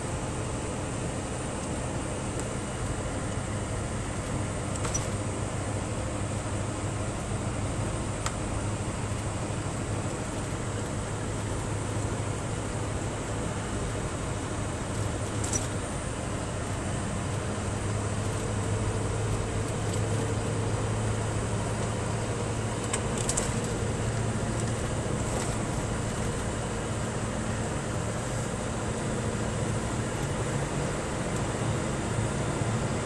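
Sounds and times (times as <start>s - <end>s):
road noise: 0.0s - 33.0s
truck diesel engine running: 0.0s - 33.0s.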